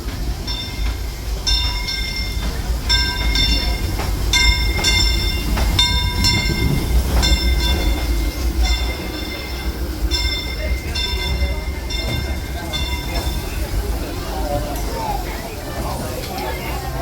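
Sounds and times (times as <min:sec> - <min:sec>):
locomotive bell ringing: 0:00.0 - 0:17.0
train rumbling on track: 0:00.0 - 0:17.0.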